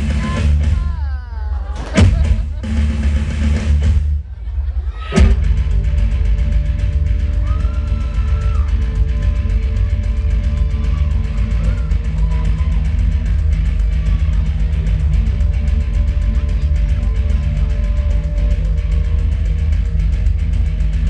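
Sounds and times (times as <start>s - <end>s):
heavy rock music: 0.0s - 4.2s, 5.1s - 21.0s.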